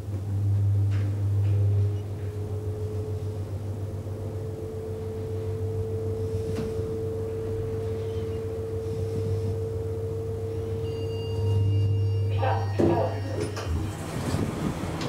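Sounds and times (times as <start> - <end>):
high whine: 0.0 - 15.0
hydraulic pump humming: 0.0 - 15.0.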